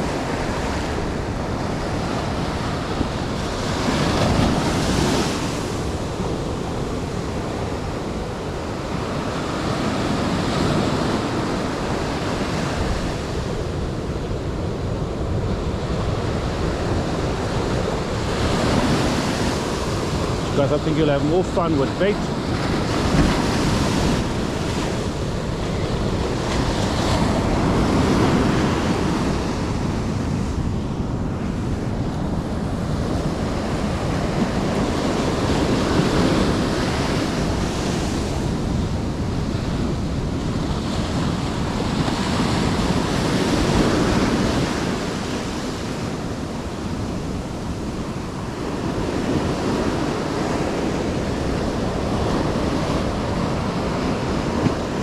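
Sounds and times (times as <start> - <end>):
surf breaking on shore: 0.0 - 55.0
wind buffeting microphone: 0.0 - 55.0.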